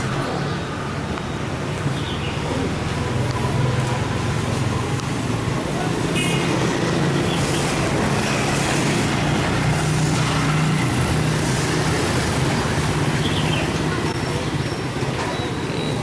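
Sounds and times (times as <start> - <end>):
motorbikes passing: 0.0 - 16.0.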